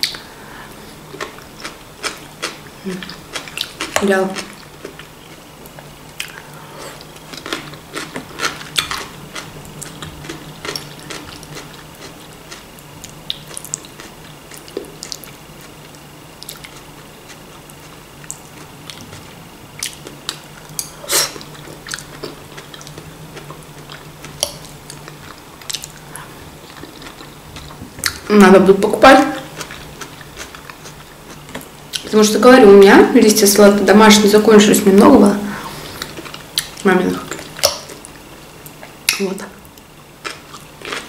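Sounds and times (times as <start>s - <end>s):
steady low hum: 0.0s - 41.0s
crunchy salad chewing: 0.9s - 28.3s, 29.4s - 32.2s, 35.6s - 39.1s, 39.7s - 41.0s.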